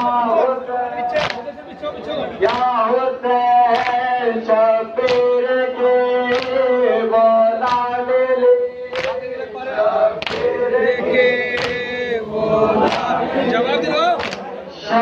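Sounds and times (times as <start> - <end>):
person singing a lament: 0.0 - 1.2, 2.3 - 13.9
men beating their chests: 1.0 - 14.5.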